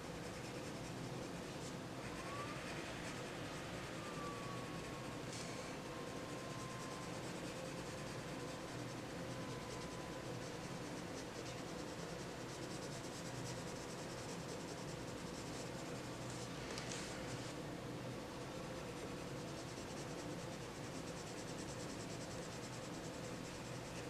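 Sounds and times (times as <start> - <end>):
colored pencil scratching on paper: 0.0 - 3.6, 4.4 - 17.5, 18.7 - 24.0.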